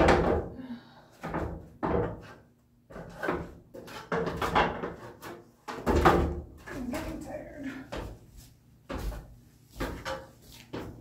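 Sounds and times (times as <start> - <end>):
knocks on stepladder and planks: 0.0 - 0.6, 1.2 - 8.2, 8.8 - 11.0.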